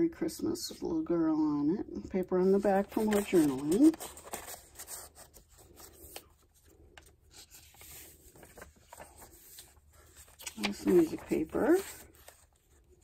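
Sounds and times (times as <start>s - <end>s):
paper rubbing and rustling: 2.4s - 13.0s.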